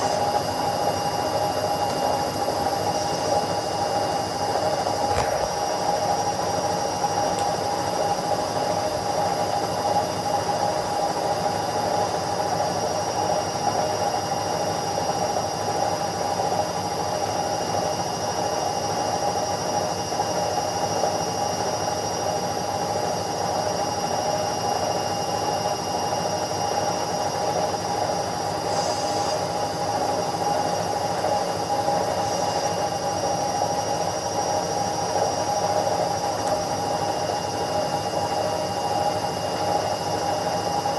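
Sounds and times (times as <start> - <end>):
washing machine spinning: 0.0 - 17.8, 25.6 - 40.9.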